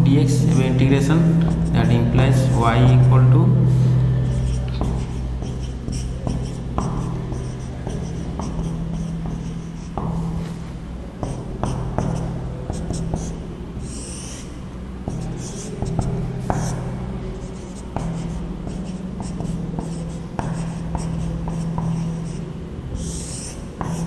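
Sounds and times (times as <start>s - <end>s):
steady low hum: 0.0s - 24.0s
marker squeaking on whiteboard: 1.2s - 3.3s, 4.2s - 10.6s, 11.2s - 24.0s.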